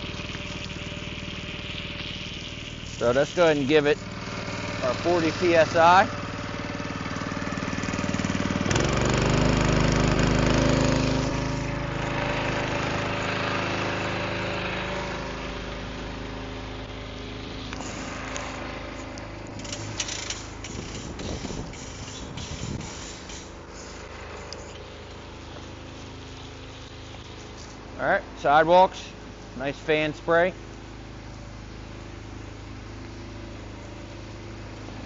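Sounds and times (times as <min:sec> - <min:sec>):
pump engine running: 0:00.0 - 0:35.0.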